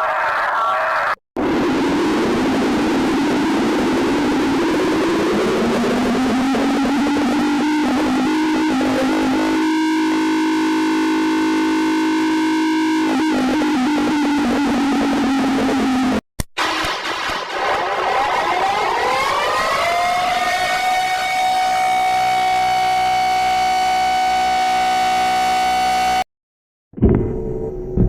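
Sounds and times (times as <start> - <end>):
distorted synthesizer drone: 0.0 - 26.2
loud noise: 0.0 - 26.2.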